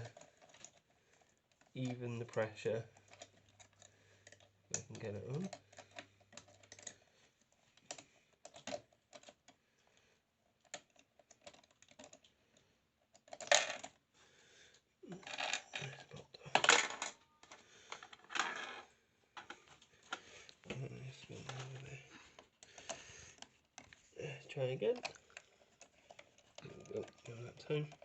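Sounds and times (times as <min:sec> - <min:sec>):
small hard clicks and clatters: 0:00.0 - 0:14.0, 0:14.6 - 0:28.0.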